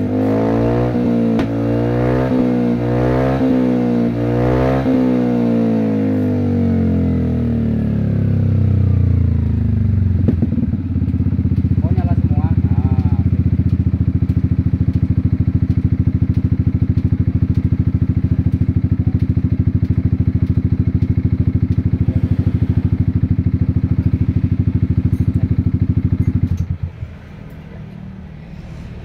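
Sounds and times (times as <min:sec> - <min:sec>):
scooter engine idling: 0:05.5 - 0:29.0.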